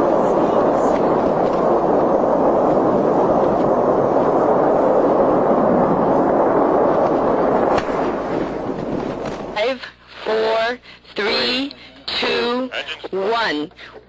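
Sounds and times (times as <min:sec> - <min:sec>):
rocket explosion roar: 0:00.0 - 0:11.6.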